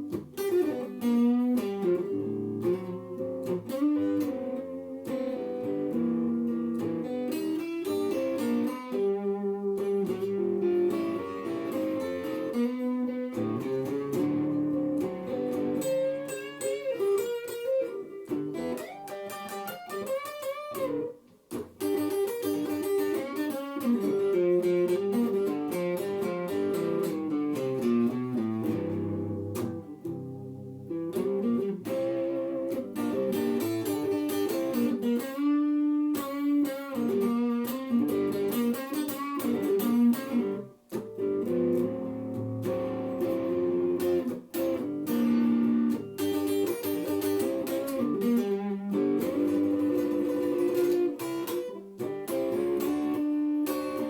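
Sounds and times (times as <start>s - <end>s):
slow blues guitar: 0.0s - 54.0s.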